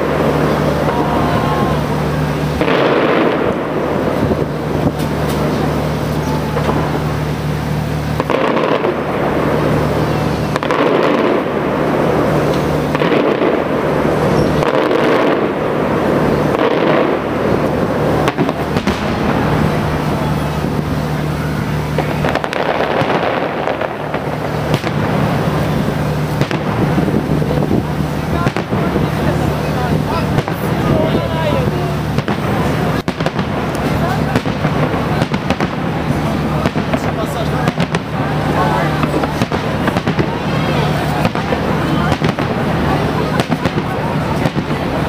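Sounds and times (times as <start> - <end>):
firework shells bursting: 0.0 - 45.0
fireworks crackling: 0.0 - 45.0.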